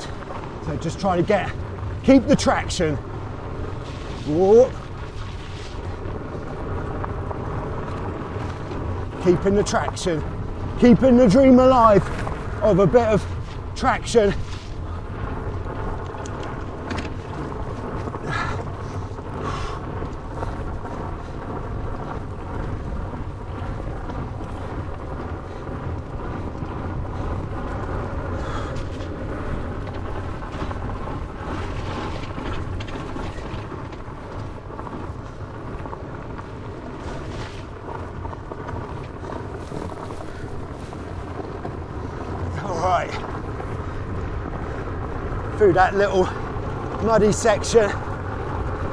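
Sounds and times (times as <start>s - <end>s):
bike tyres rumbling on dirt: 0.0s - 48.9s
wind buffeting microphone: 0.0s - 48.9s.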